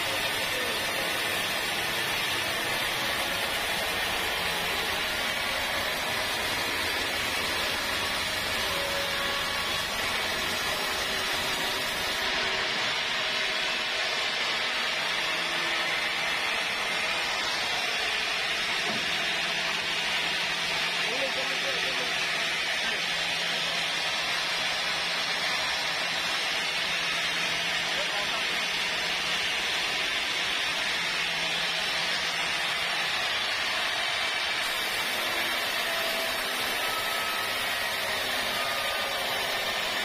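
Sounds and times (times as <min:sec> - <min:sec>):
band saw cutting through log: 0:00.0 - 0:40.0.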